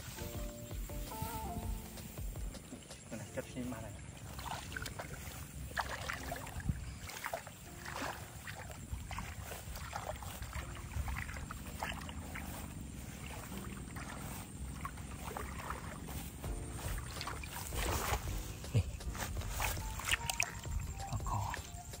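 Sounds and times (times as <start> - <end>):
splashing in shallow muddy water: 1.1 - 22.0.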